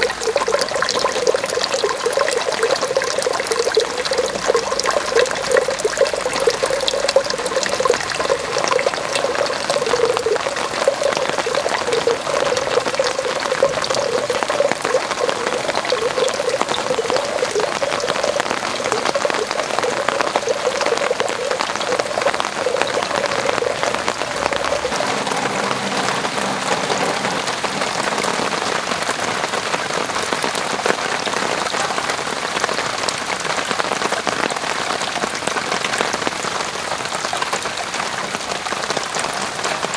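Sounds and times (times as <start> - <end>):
steady rain: 0.0 - 39.9
water pouring: 0.0 - 39.9.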